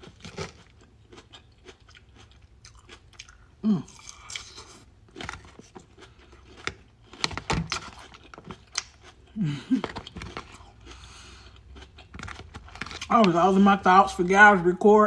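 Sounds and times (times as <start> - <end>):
crunchy chewing: 0.0 - 13.3.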